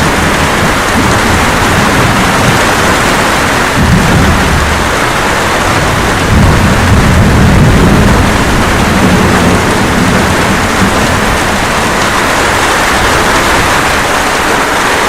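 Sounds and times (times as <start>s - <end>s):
steady rain: 0.0s - 15.0s
thunder rumble: 0.0s - 15.0s.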